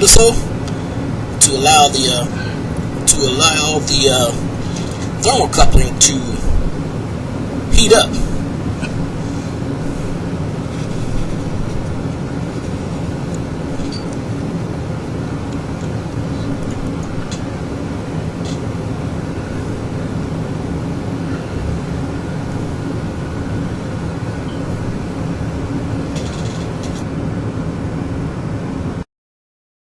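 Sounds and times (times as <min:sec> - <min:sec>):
low mechanical hum: 0:00.0 - 0:29.0
rushing noise: 0:00.0 - 0:29.0.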